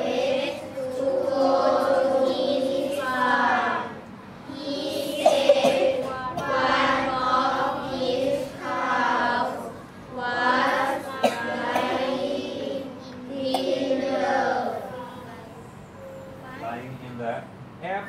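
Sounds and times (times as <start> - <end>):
children reading aloud in unison: 0.0 - 17.0.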